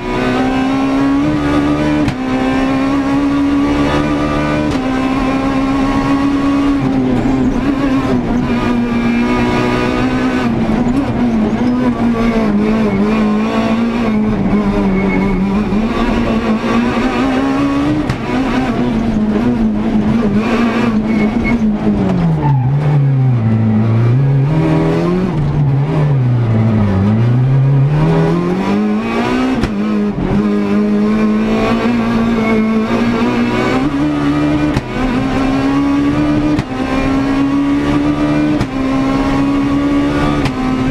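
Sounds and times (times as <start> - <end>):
car engine revving high: 0.0 - 40.9.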